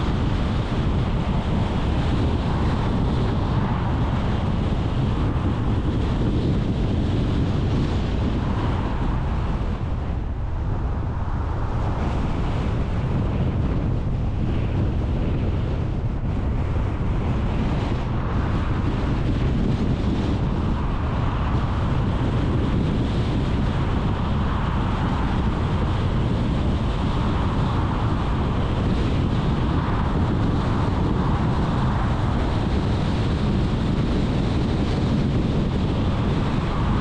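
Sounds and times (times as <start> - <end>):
car road and wind noise: 0.0 - 37.0.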